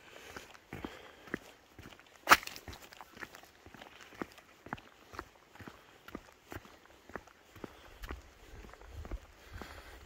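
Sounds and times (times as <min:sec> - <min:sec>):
footsteps on grit and slush: 0:00.0 - 0:10.0.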